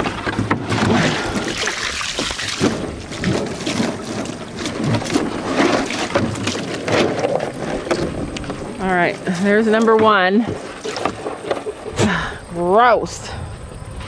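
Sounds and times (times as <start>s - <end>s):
water pouring and splashing: 0.0s - 12.4s.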